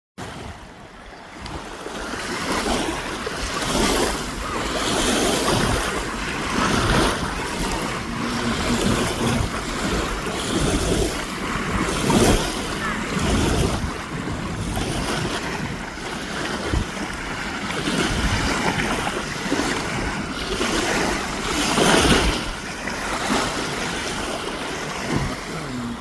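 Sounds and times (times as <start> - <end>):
sea waves surging: 0.2 - 26.0
wind buffeting microphone: 0.2 - 26.0.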